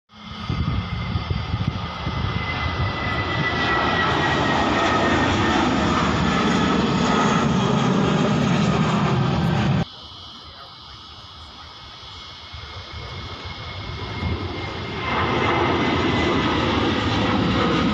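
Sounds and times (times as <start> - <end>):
jet engines roaring past: 0.1 - 17.9.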